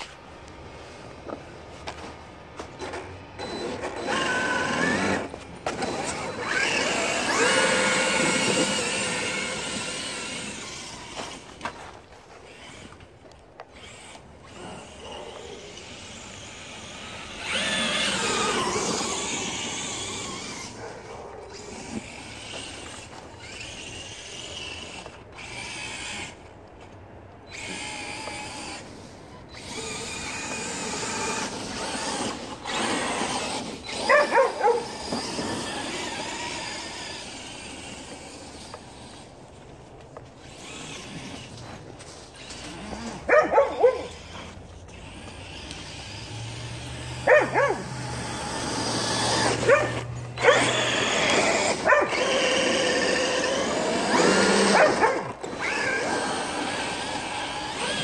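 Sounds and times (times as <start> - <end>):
rc truck motor whining: 0.0 - 58.0.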